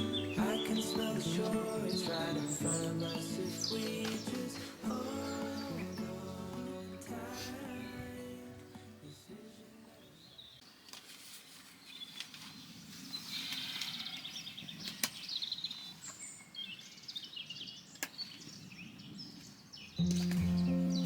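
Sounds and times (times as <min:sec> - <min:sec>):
small birds chirping: 0:00.0 - 0:09.2, 0:09.9 - 0:21.0
outdoor ambient hiss: 0:00.0 - 0:21.0.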